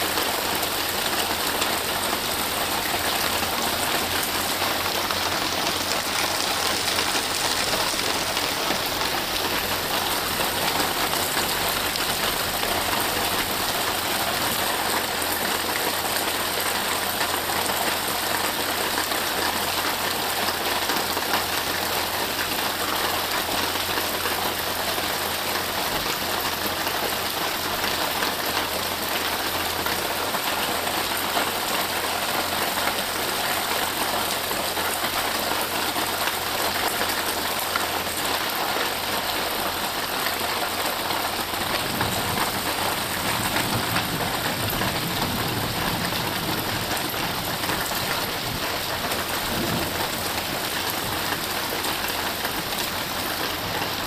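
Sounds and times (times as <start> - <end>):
steady rain on vegetation: 0.0 - 54.0.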